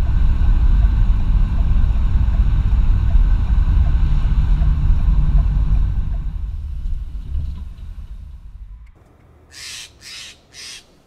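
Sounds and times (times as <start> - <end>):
car road and wind noise: 0.0 - 9.7.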